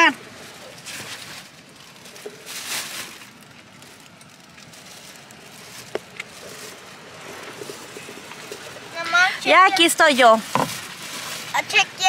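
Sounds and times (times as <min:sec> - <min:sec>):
fabric rustling: 0:00.4 - 0:11.8.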